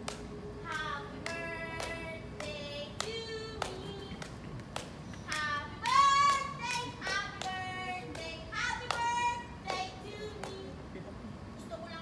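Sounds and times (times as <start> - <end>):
hand claps: 0.0 - 10.7.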